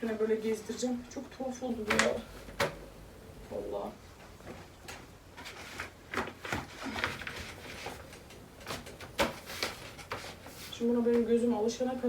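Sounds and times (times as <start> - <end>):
tablecloth crinkling and rustling: 1.7 - 11.7.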